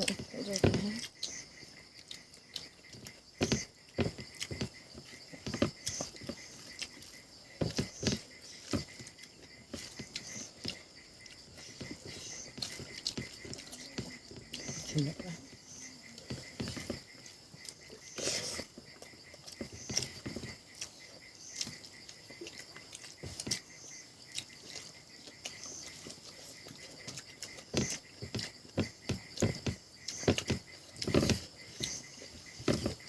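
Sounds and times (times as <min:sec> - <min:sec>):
wet chewing clicks: 0:00.0 - 0:32.3.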